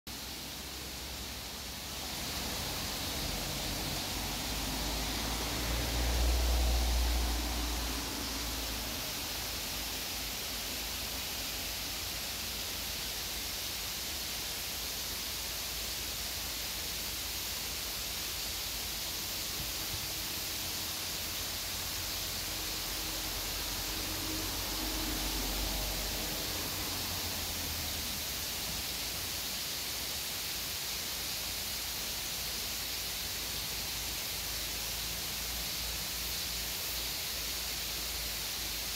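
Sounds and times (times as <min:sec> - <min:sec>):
outdoor ambience hiss: 0:00.1 - 0:38.9.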